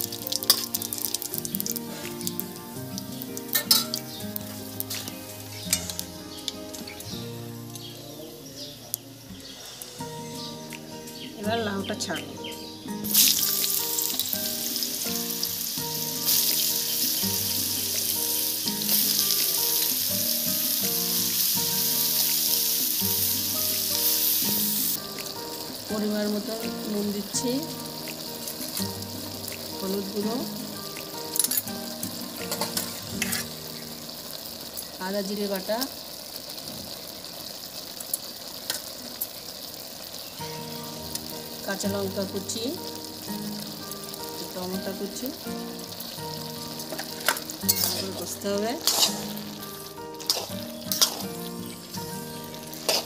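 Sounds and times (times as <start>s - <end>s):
background music: 0.0s - 35.9s, 40.4s - 53.0s
hot oil sizzling in a wok: 0.0s - 53.0s.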